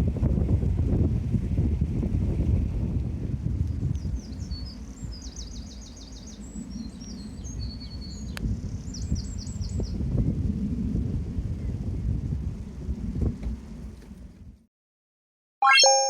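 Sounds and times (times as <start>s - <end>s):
wind rumble on microphone: 0.0s - 14.7s.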